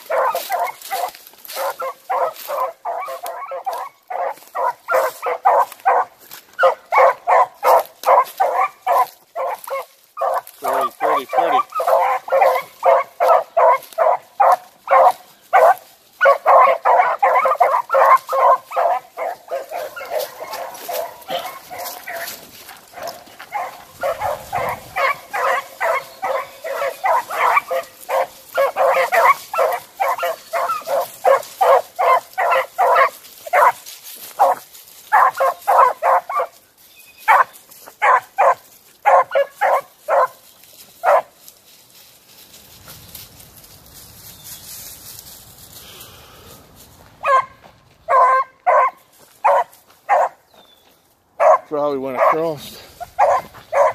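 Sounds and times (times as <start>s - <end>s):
dogs baying: 0.0s - 41.5s, 47.2s - 50.4s, 51.4s - 53.9s.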